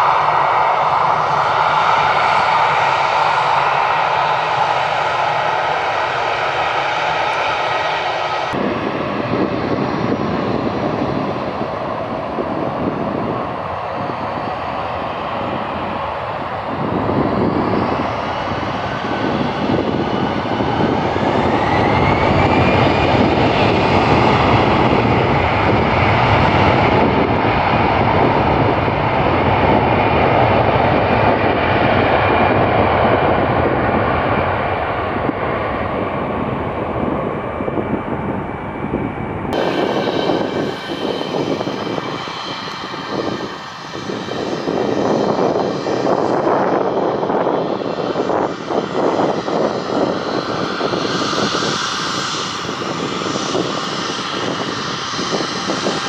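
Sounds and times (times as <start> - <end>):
jet engines spooling up and roaring: 0.0 - 56.0.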